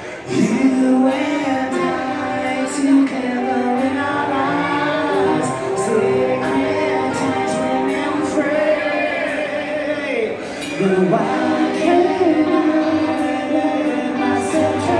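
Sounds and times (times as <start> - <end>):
live rock band: 0.0 - 14.9
man singing long notes: 0.0 - 14.9.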